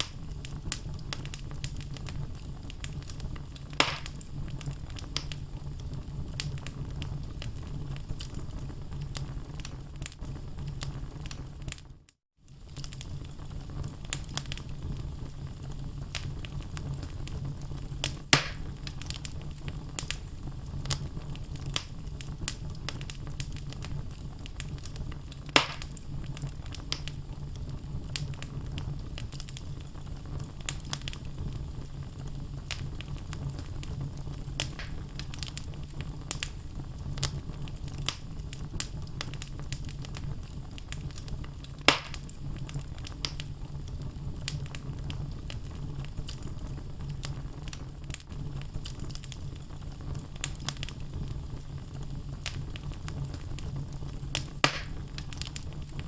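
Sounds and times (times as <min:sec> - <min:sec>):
logs crackling in fireplace: 0:00.0 - 0:56.0
loud fire pops: 0:00.0 - 0:56.0.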